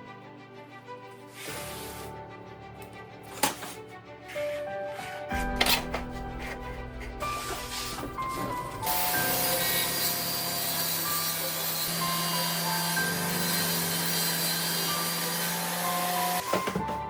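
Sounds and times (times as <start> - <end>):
background music: 0.0 - 17.0
power tool rasping: 1.3 - 2.1, 3.4 - 16.6.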